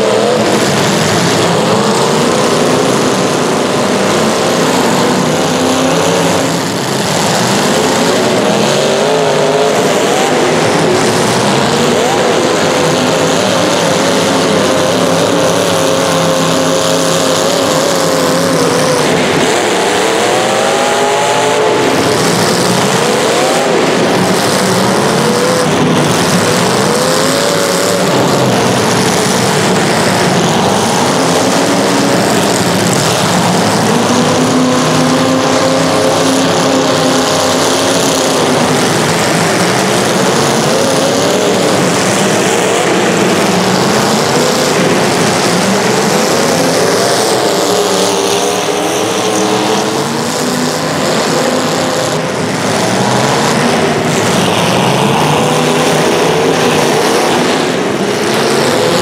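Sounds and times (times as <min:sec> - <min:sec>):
racing engines revving: 0:00.0 - 0:59.0.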